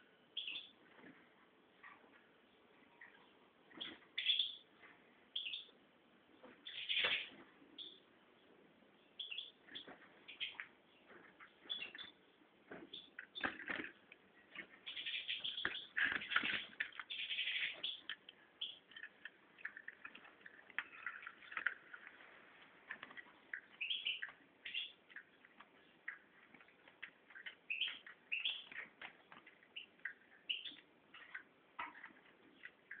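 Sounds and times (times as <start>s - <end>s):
bird chirping and twittering: 0.3s - 0.8s, 2.8s - 5.8s, 6.4s - 22.1s, 23.0s - 33.0s.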